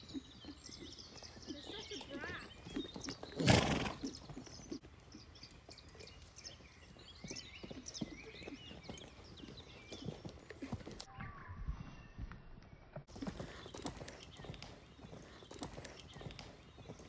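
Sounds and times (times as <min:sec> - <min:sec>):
horse hooves on soft ground: 0:00.0 - 0:17.0.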